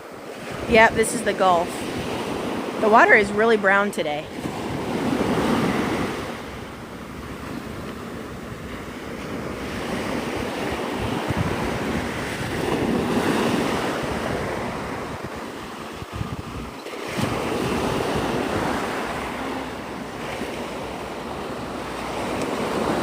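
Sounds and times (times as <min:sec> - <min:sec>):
surf washing on beach: 0:00.0 - 0:23.0
wind buffeting microphone: 0:00.0 - 0:23.0.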